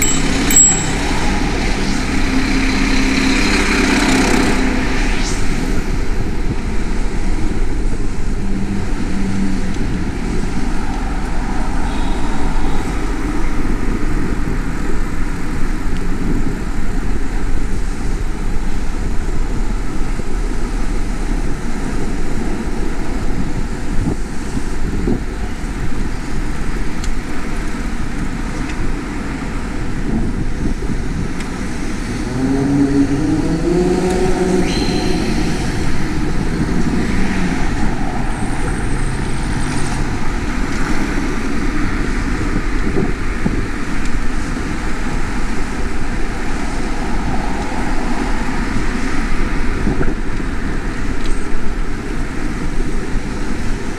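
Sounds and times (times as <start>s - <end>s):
air and road noise rumble: 0.0s - 53.9s.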